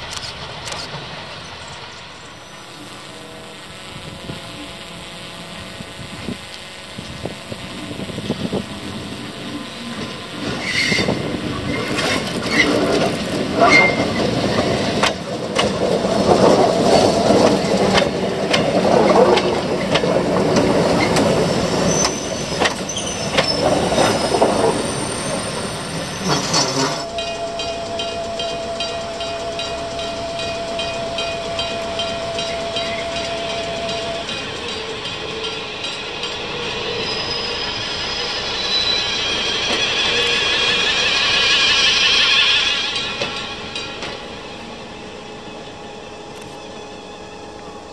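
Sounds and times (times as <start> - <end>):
train wheels rolling on track: 0.0 - 2.8, 6.5 - 47.9
standing train hum: 0.0 - 47.9
wheel squeals: 9.4 - 47.9.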